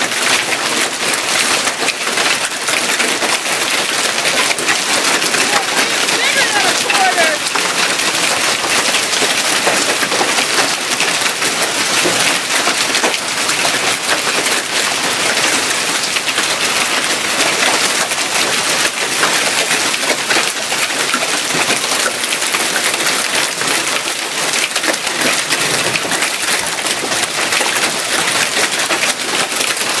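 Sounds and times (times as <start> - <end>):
hailstones pelting down: 0.0 - 30.0.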